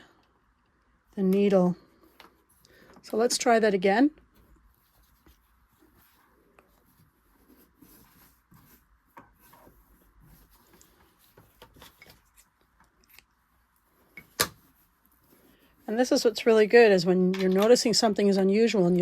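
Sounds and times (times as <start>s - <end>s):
thread rustling: 1.0s - 16.8s.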